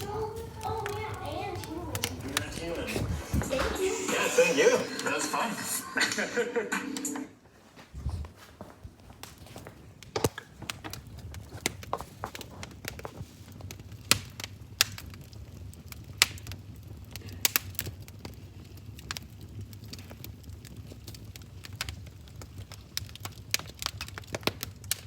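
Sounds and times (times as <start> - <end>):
fire crackling and popping: 0.0 - 6.4, 7.8 - 25.0.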